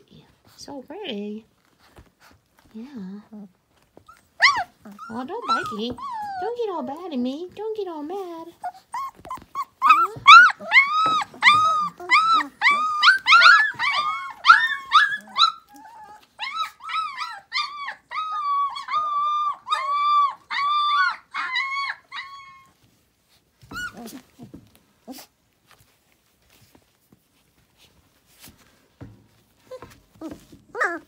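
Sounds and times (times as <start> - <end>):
puppy whining: 1.6 - 7.3, 8.2 - 28.6, 29.4 - 31.0.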